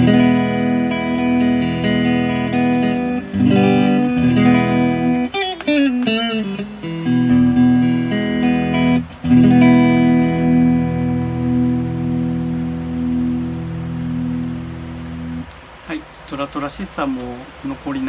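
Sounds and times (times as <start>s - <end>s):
electric guitar chords: 0.0s - 15.8s.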